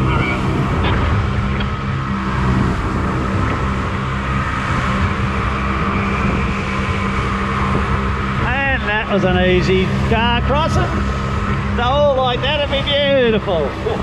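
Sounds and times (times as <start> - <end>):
outboard motor humming: 0.0 - 14.0
water rushing: 0.0 - 14.0.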